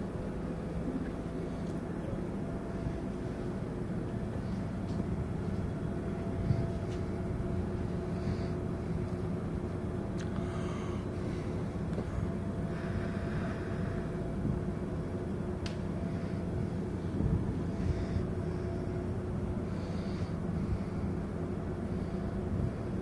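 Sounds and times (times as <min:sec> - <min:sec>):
ship machinery rumble and hum: 0:00.0 - 0:23.0.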